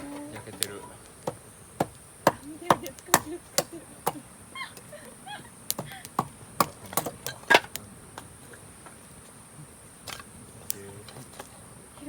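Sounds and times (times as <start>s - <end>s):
campfire wood crackling and popping: 0.0s - 12.0s.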